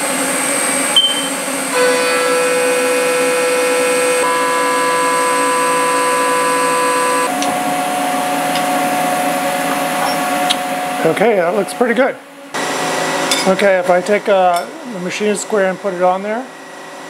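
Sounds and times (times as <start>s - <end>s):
milling machine whine cutting metal: 0.0s - 17.0s.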